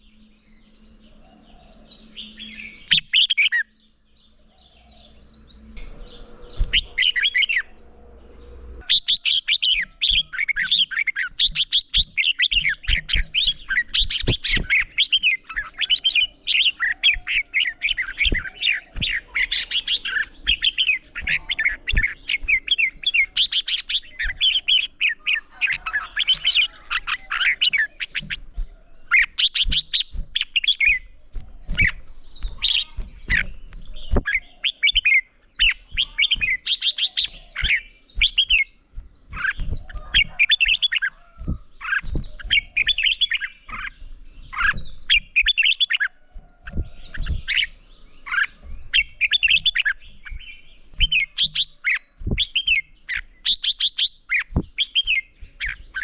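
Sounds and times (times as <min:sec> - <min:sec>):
bulbuls singing: 0:00.0 - 0:56.0.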